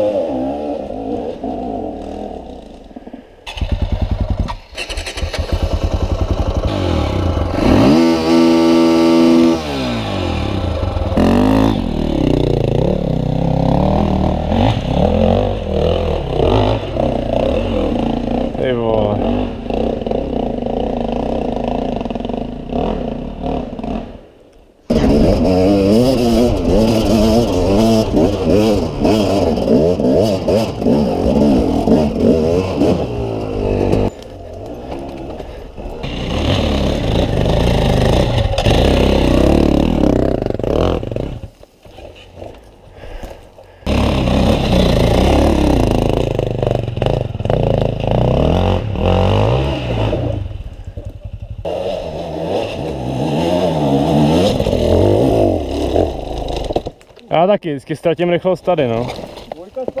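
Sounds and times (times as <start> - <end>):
dirt bike engine revving: 0.0 - 2.8, 3.5 - 24.2, 24.9 - 41.5, 43.8 - 56.8.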